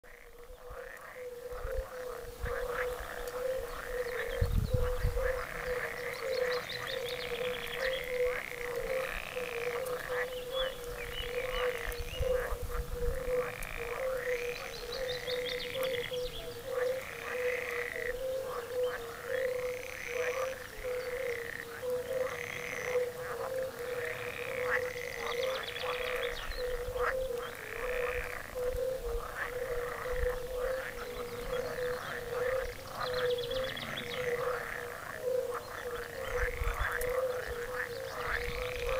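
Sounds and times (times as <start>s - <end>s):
frog chorus hum: 0.0s - 38.9s
frogs croaking loudly: 0.0s - 38.9s.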